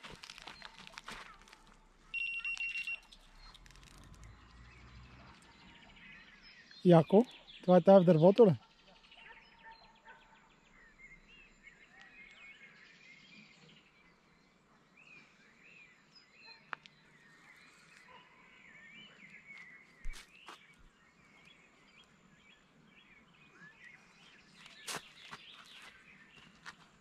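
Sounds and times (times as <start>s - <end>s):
small birds chirping and warbling: 0.0s - 26.9s.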